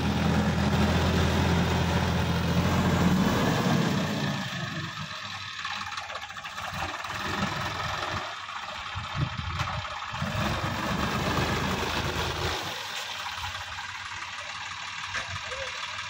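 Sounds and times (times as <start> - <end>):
tractor diesel engine under load: 0.0 - 16.0
wheels churning water and mud: 0.0 - 16.0.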